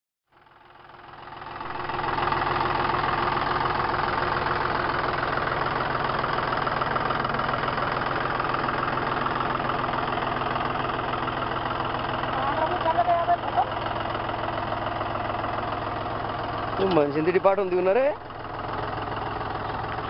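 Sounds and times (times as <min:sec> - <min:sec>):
tractor diesel engine running: 0:00.3 - 0:20.0.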